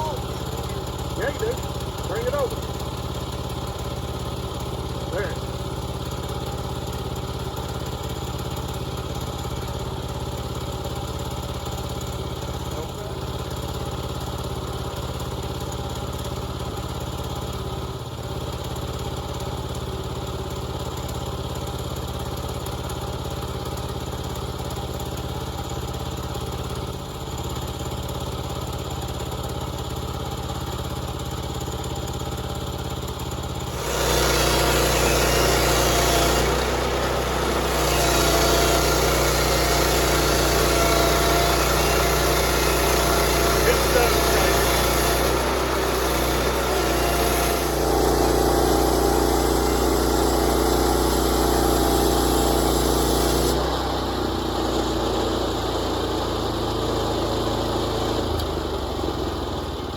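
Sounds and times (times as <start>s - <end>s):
sawmill gas engine running: 0.0s - 59.9s.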